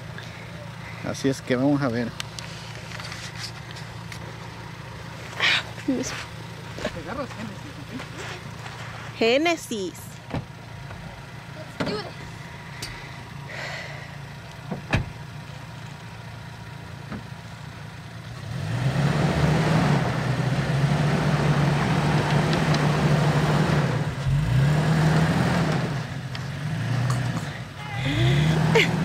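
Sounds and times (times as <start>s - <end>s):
truck engine pulling hard: 0.0s - 29.0s.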